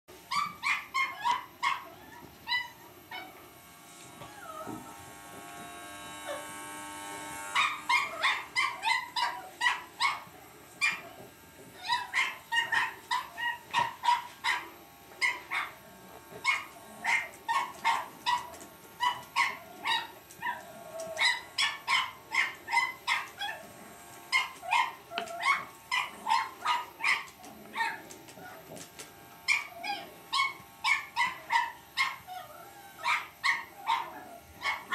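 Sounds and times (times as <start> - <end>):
electric shaver buzzing: 0.2 - 34.9
puppy yapping and barking: 0.3 - 3.4, 4.2 - 4.8, 7.5 - 23.7, 24.3 - 28.8, 29.5 - 34.9.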